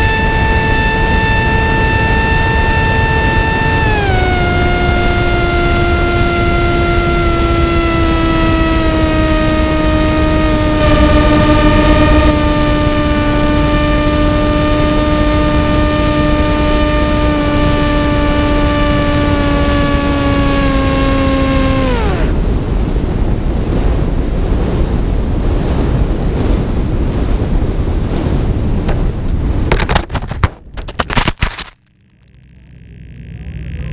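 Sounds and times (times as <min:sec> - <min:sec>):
wind rushing over airframe: 0:00.0 - 0:17.0, 0:19.0 - 0:30.2
electric motor and propeller whining: 0:00.0 - 0:24.7, 0:31.0 - 0:33.9.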